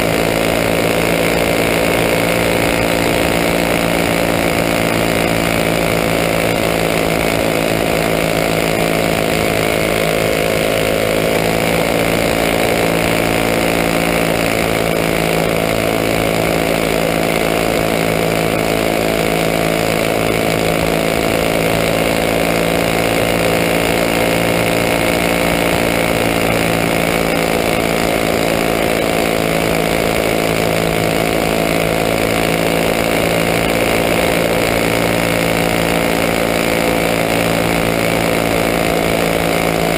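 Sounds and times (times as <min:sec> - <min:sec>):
kart engine running flat out: 0:00.0 - 0:39.9.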